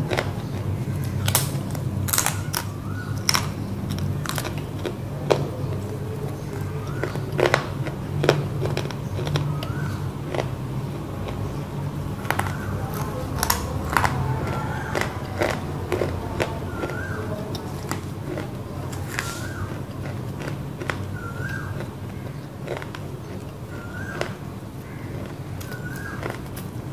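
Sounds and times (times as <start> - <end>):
crunchy chewing: 0.0 - 26.9
steady low hum: 0.0 - 26.9.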